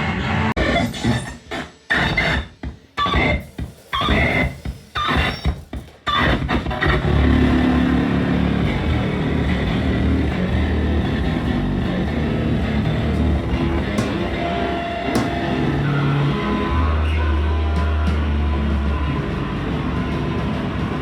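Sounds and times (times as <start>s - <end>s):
harsh distorted noise music: 0.0s - 21.0s.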